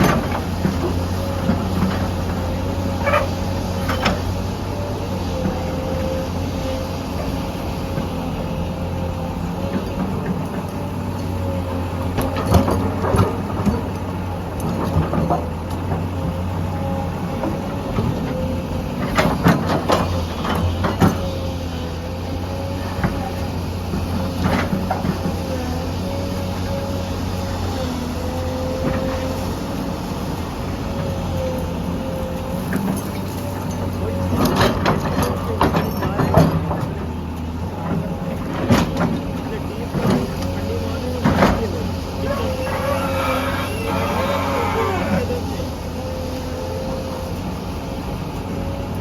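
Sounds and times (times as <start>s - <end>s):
diesel excavator engine drone: 0.0s - 49.0s.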